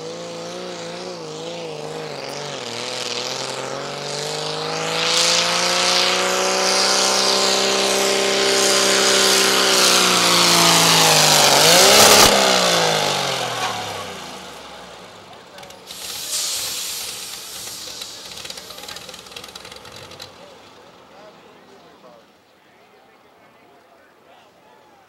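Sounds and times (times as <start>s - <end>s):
tractor engine under load: 0.0s - 22.4s.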